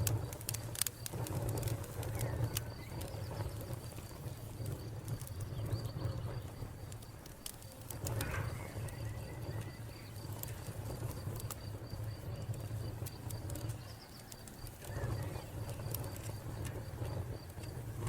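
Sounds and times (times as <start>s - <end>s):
cricket chirping: 0.0s - 18.0s
wood fire crackling: 0.0s - 18.0s.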